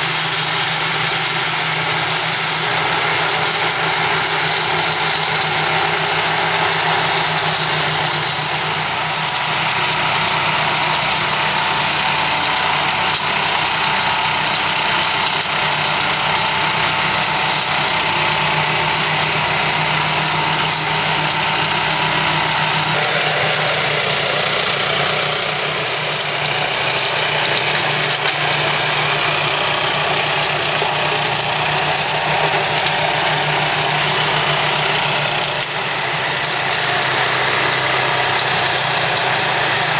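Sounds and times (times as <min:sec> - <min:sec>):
flail mower cutting weeds: 0:00.0 - 0:39.9.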